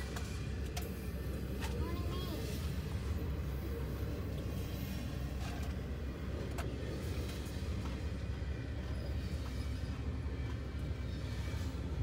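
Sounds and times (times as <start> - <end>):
faint clicks from train cars: 0.0 - 3.3, 3.9 - 12.0
freight train rumbling past: 0.0 - 12.0.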